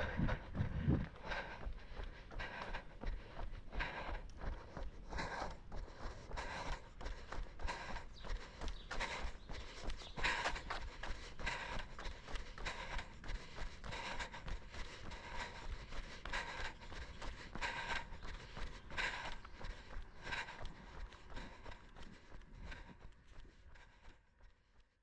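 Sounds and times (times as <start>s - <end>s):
footsteps on asphalt: 0.0s - 24.3s
heavy rhythmic breathing: 0.0s - 25.0s.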